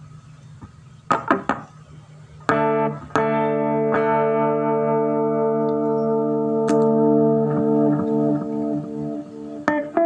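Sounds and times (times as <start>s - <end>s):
electric guitar strums and chords: 1.1s - 1.7s, 2.4s - 10.0s.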